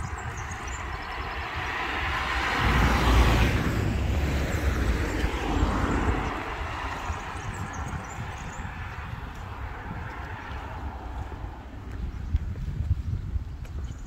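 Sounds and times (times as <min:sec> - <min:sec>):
van passing by: 0:00.0 - 0:11.9
low rumble: 0:00.0 - 0:13.4.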